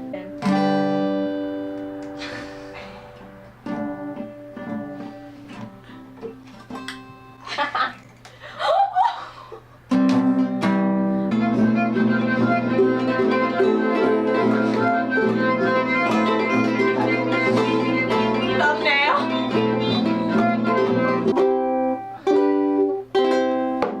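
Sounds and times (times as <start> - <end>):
plucked string instrument: 0.0 - 8.2, 9.9 - 24.0.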